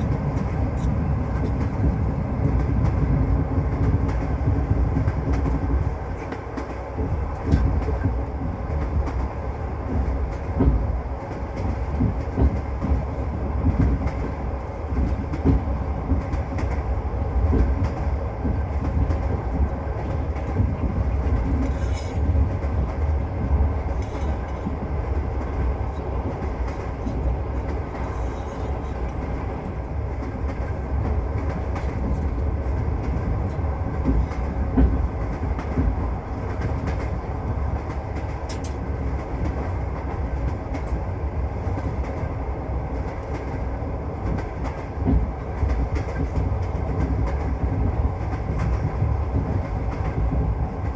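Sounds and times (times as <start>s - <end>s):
train low rumble: 0.0s - 50.9s
train wheels clacking on rails: 0.0s - 50.9s.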